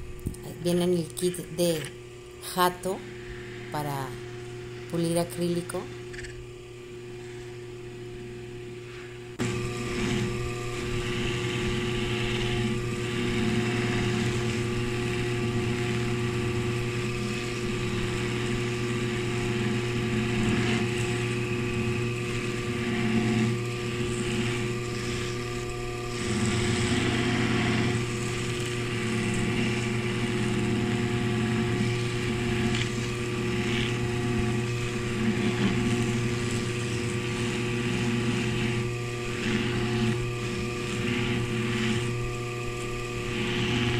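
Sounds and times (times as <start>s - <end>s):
polishing lathe motor hum: 0.0s - 43.9s.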